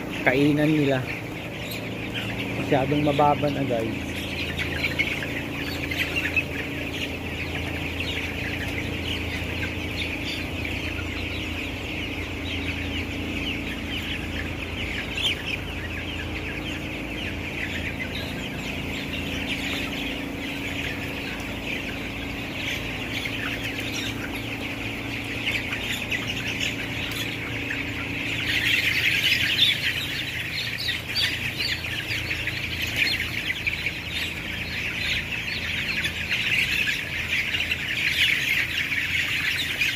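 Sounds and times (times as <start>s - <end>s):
chickens peeping and chirping: 0.0s - 39.9s
steady low hum: 0.0s - 39.9s.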